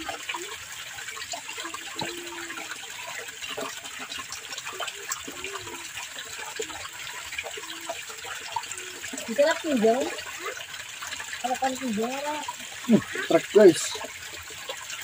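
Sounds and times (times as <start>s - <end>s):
water trickling in a channel: 0.0s - 15.0s.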